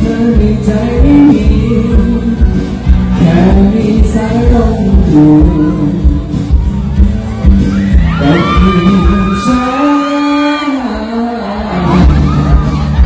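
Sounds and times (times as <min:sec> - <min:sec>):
man singing into a microphone: 0:00.0 - 0:06.6, 0:07.9 - 0:13.0
pop backing music with bass beat: 0:00.0 - 0:13.0.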